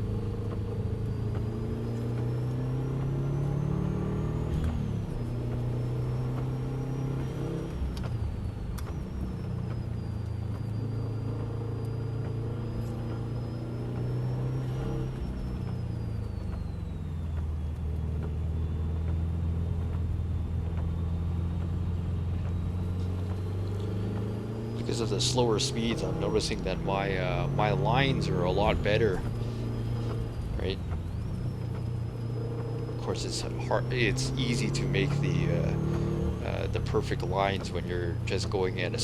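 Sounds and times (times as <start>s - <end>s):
car engine running: 0.0s - 39.0s
road noise: 0.0s - 39.0s.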